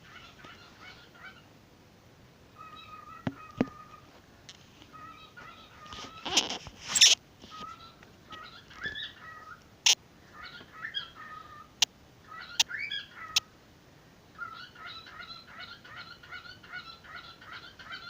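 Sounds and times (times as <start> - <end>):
pet bird chirping and warbling: 0.0 - 1.4, 2.6 - 4.1, 4.9 - 13.5, 14.4 - 18.0.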